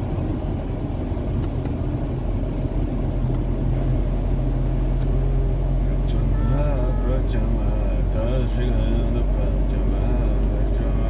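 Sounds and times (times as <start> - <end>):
car engine and road noise in cabin: 0.0 - 11.0.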